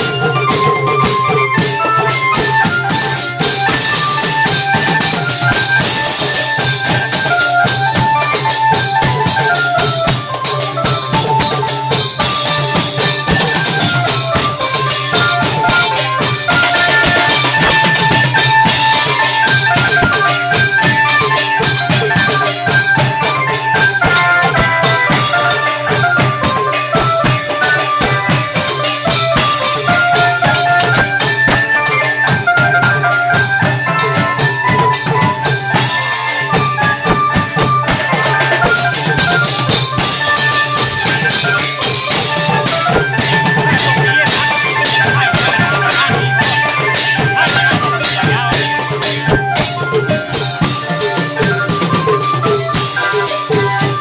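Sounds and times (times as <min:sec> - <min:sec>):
drum ensemble playing: 0:00.0 - 0:54.0
stepping melody line: 0:00.0 - 0:54.0.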